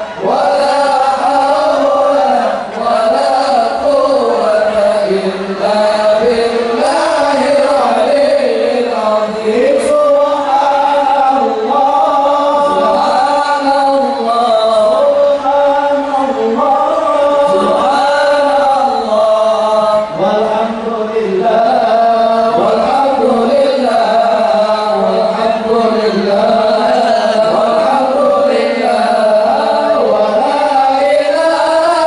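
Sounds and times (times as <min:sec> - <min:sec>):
person chanting slow melody: 0:00.0 - 0:32.0.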